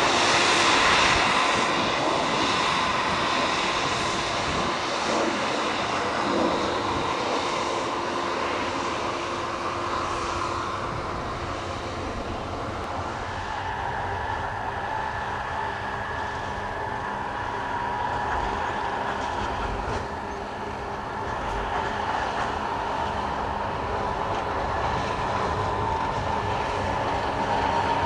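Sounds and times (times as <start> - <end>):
rack locomotive mechanical drone: 0.0 - 28.0.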